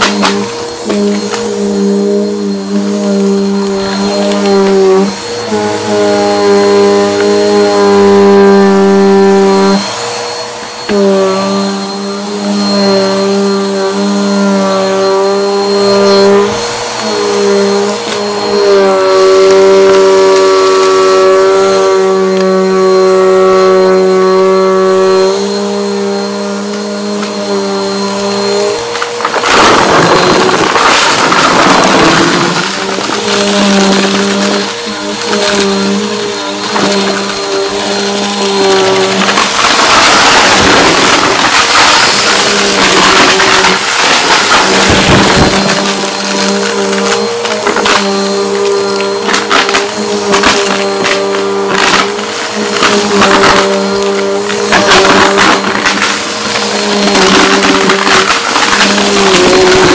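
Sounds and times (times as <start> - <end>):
vacuum cleaner motor whine: 0.0 - 59.9
vacuum sucking up hard debris: 0.0 - 59.9.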